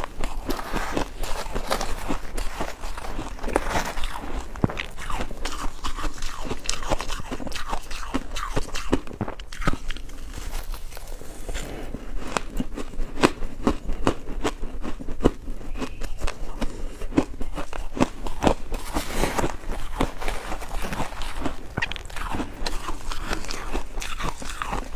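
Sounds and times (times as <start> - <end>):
ice being chewed crunching: 0.0 - 24.9.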